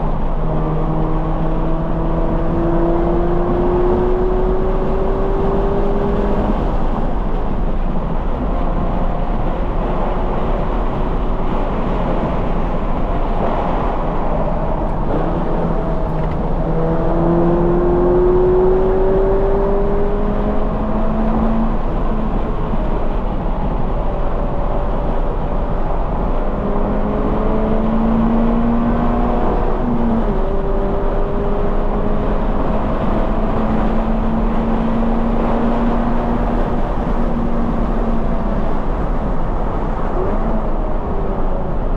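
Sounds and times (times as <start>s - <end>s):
car engine revving and shifting: 0.0s - 41.9s.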